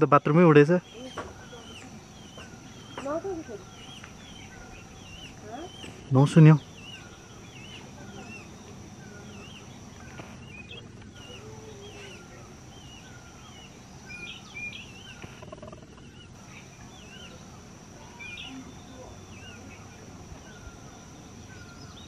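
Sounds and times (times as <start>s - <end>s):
bird calling with wavering notes: 0.0s - 22.0s
steady high-pitched hum: 0.0s - 22.0s.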